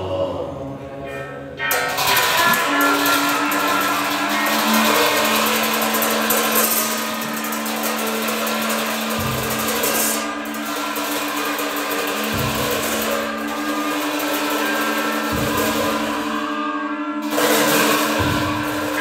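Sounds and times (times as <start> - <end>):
ritual horns buzzing held notes: 1.1 - 19.0
hand cymbals clashing: 1.6 - 19.0.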